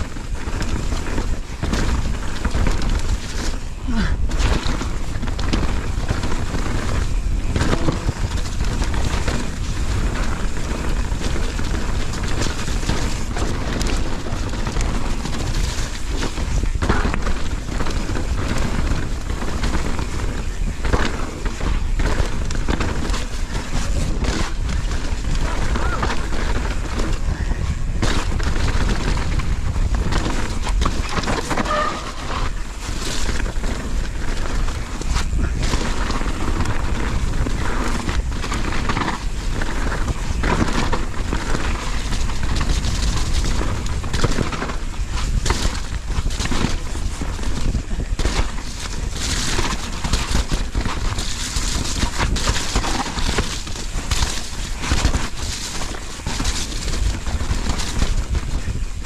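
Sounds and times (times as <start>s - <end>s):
bike knocking and rattling: 0.0s - 59.0s
tyres rumbling over gravel: 0.0s - 59.0s
wind buffeting microphone: 0.0s - 59.0s.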